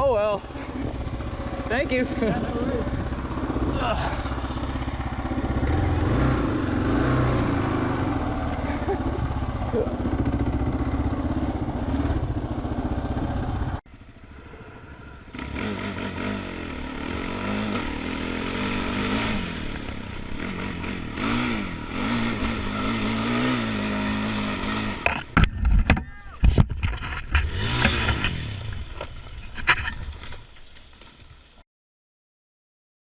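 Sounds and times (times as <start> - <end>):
motorcycle engine revving: 0.0 - 25.8, 26.8 - 30.5.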